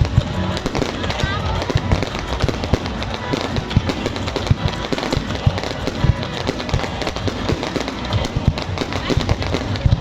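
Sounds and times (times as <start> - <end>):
fireworks booming: 0.0 - 10.0
fireworks crackling and popping: 0.0 - 10.0.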